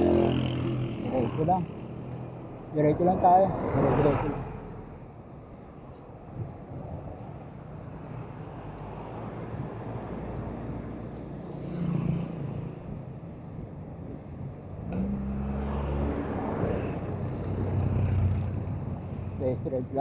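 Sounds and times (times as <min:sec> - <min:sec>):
vehicles passing with low rumble: 0:00.0 - 0:20.0.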